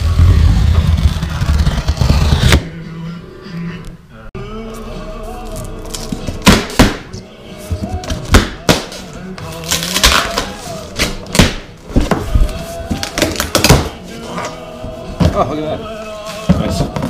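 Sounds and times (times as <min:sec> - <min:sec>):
background music: 0:02.2 - 0:17.0.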